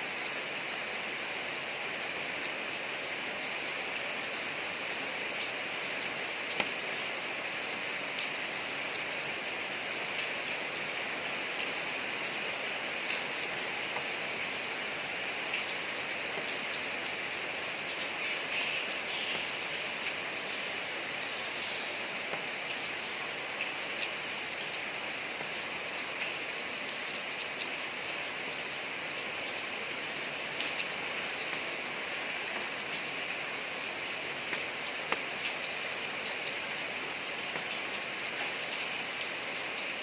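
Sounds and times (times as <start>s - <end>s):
rain falling on street: 0.0s - 40.0s.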